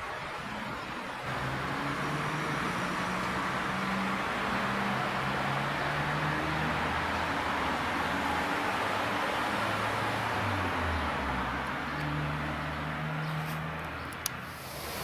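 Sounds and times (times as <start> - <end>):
vehicle running rush: 0.0 - 15.0.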